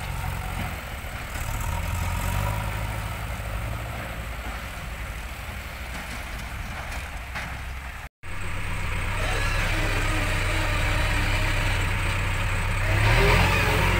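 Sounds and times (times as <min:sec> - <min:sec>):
backhoe diesel engine running: 0:00.0 - 0:13.9.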